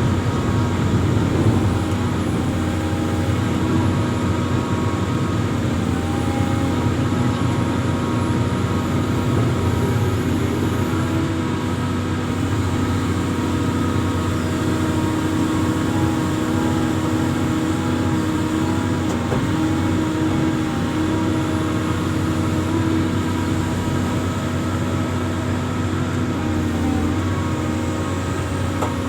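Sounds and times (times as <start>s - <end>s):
diesel engine running under load: 0.0s - 29.0s.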